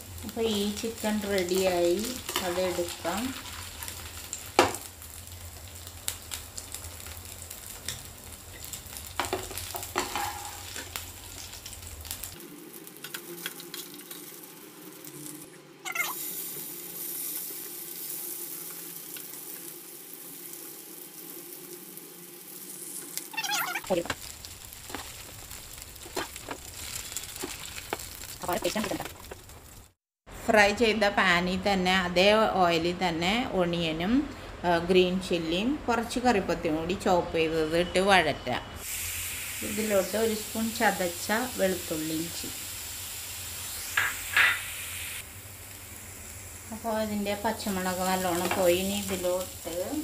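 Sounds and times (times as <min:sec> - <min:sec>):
chicken sizzling in hot oil: 0:00.0 - 0:30.0, 0:38.8 - 0:50.0.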